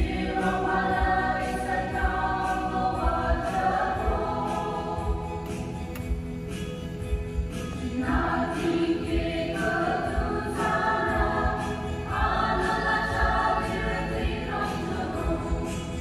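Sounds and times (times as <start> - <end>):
choir singing a hymn: 0.0 - 5.8, 7.8 - 16.0.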